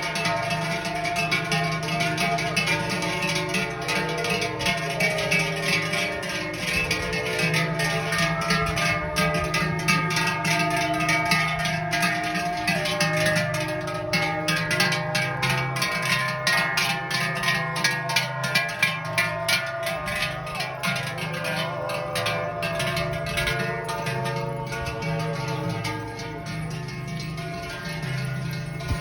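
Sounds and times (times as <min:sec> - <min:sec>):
zither-like string instrument: 0:00.0 - 0:29.0.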